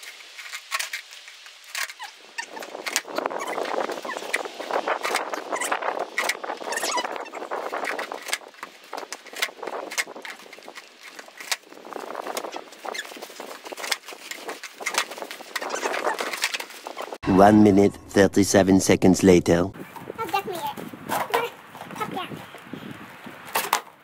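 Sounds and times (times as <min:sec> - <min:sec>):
skateboard wheels on gravel: 0:00.0 - 0:17.2, 0:19.9 - 0:24.0.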